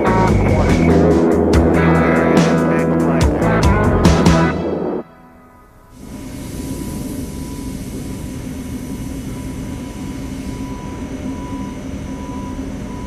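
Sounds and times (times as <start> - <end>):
mechanical drone: 0.0 - 13.0.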